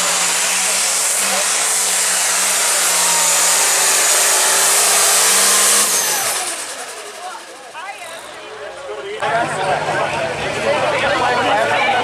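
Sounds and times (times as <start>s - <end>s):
diesel engine running flat out: 0.0s - 12.0s.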